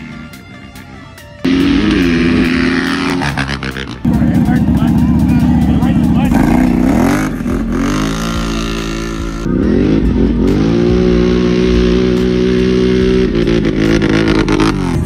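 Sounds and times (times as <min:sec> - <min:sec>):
atv engine at high revs: 0:01.4 - 0:15.0.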